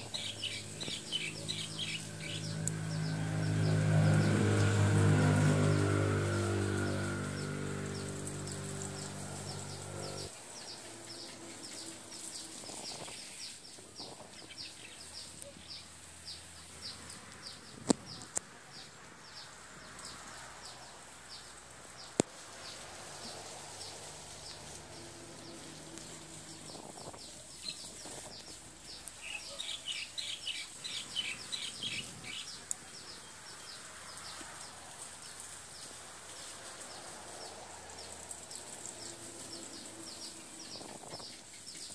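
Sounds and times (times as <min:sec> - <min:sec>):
engine humming: 0:00.0 - 0:13.0, 0:14.9 - 0:29.4, 0:30.2 - 0:41.6
small birds chirping: 0:00.0 - 0:41.9.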